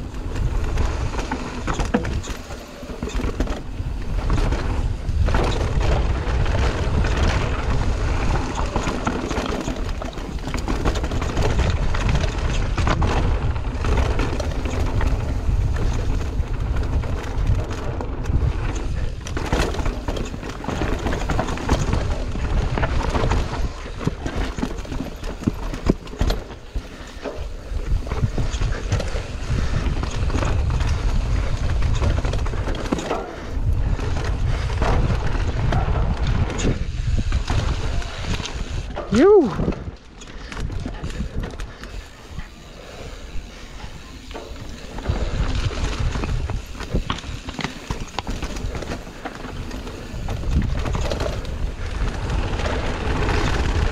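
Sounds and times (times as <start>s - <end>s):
bike rattling and knocking: 0.0s - 53.9s
wind buffeting microphone: 0.0s - 53.9s.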